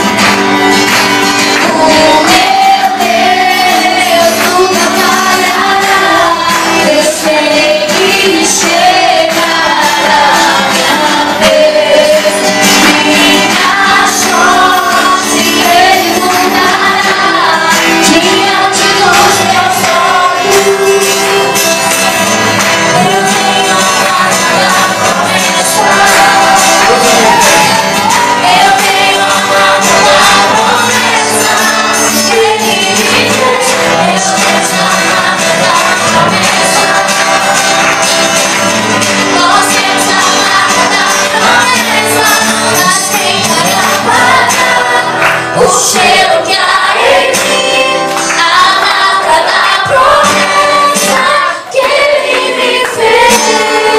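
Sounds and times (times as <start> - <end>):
acoustic guitar: 0.0 - 53.9
man and woman singing: 1.4 - 53.9.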